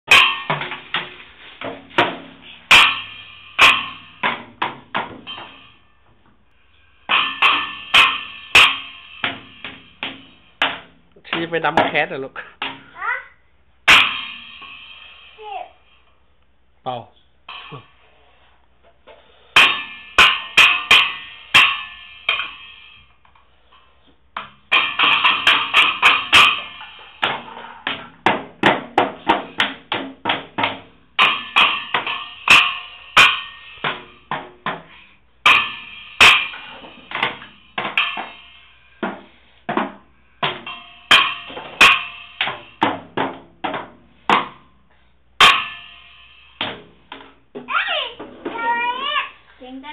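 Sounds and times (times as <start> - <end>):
child banging on drum kit: 0.0 - 6.2, 7.0 - 15.7, 19.6 - 23.2, 24.4 - 44.8, 45.4 - 49.4.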